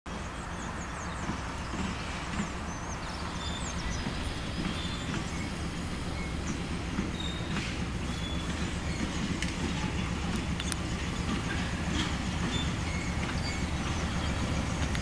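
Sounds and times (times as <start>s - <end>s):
diesel locomotive engine rumbling: 0.1s - 15.0s.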